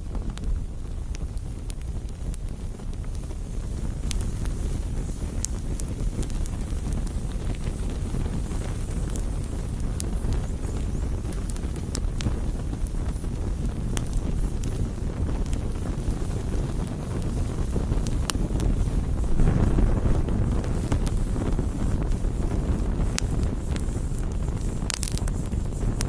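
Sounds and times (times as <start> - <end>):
fire crackles and pops: 0.0 - 26.0
low rushing fire rumble: 0.0 - 26.0.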